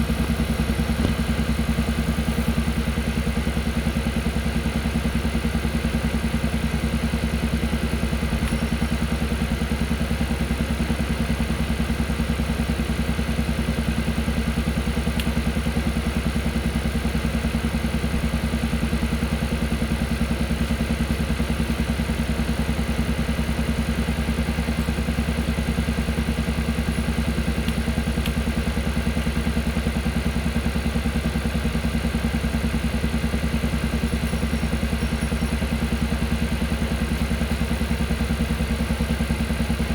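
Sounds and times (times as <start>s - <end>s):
engine puffing beat: 0.0s - 39.9s.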